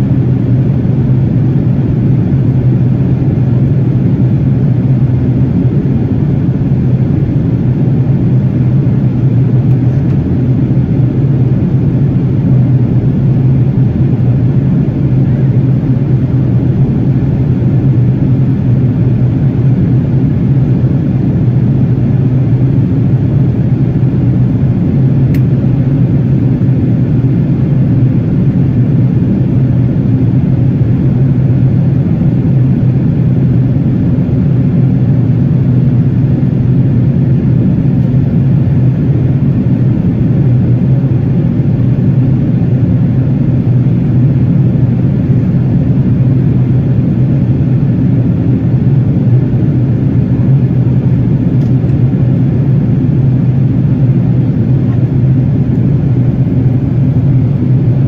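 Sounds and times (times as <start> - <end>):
jet cabin low hum: 0.0 - 58.0.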